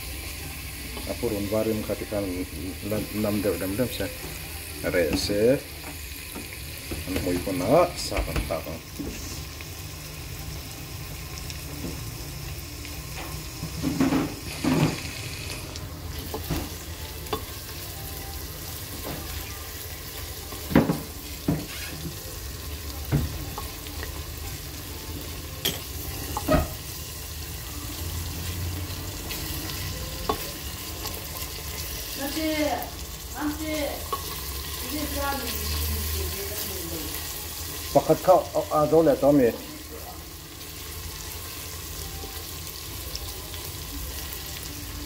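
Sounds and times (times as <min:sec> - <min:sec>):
food sizzling in a pan: 0:00.0 - 0:45.0.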